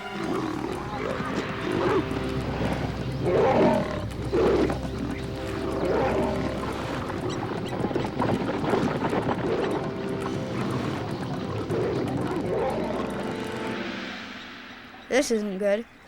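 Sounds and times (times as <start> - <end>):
lions growling: 0.0 - 14.5.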